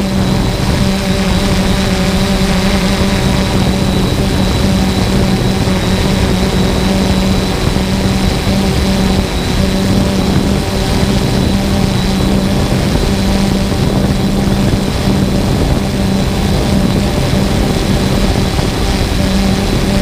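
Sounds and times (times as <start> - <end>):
drone propellers humming: 0.0 - 20.0
rushing air noise: 0.0 - 20.0.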